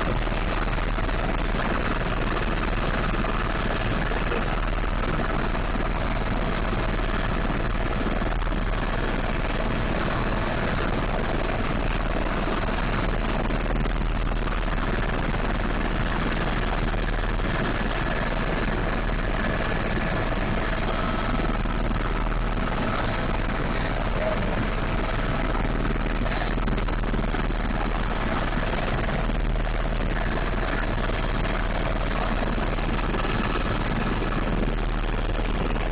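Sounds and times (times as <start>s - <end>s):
helicopter engine and rotor drone: 0.0s - 35.9s.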